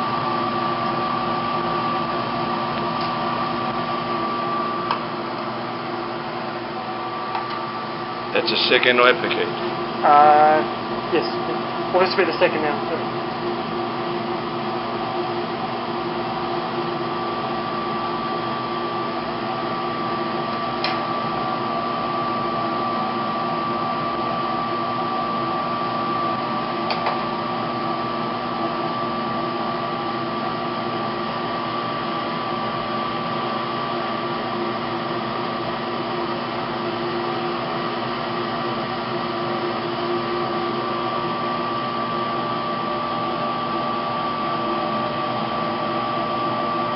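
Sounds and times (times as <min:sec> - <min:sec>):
electric fan motor humming: 0:00.0 - 0:46.9.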